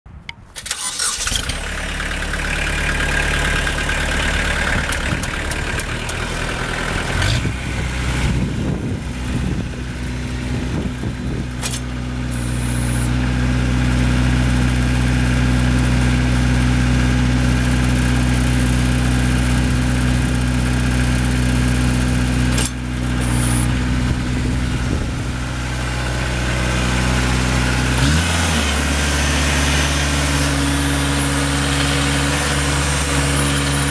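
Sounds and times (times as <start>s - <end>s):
tractor diesel engine running: 0.5s - 33.9s.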